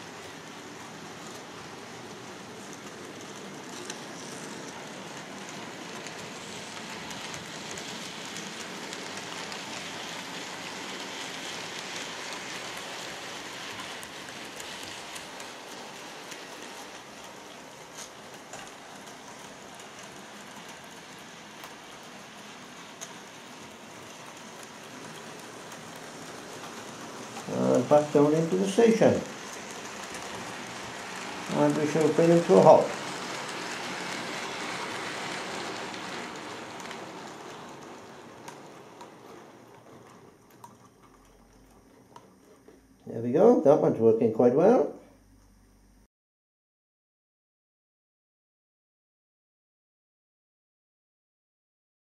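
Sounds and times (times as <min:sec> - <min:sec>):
model train rattling whir: 0:00.0 - 0:42.8.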